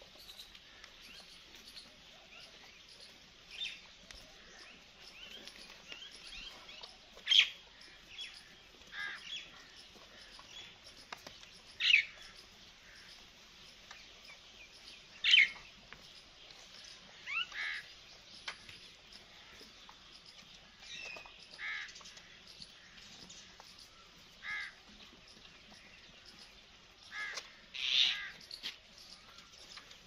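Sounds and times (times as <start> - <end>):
birds calling: 0.0 - 30.0
faint background noise: 0.0 - 30.0.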